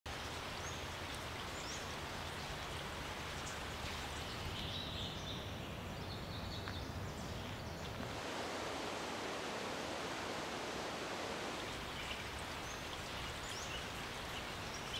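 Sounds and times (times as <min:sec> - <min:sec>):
flowing creek water: 0:00.1 - 0:14.9.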